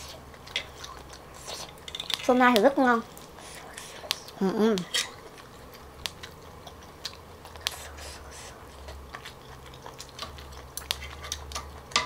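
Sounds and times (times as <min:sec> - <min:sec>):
mouth chewing: 0:00.0 - 0:01.9, 0:03.0 - 0:12.0.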